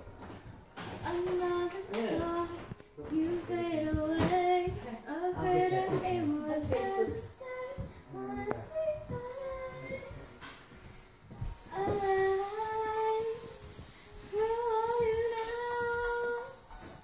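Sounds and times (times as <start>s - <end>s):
girl singing: 0.8s - 10.6s, 11.5s - 17.0s.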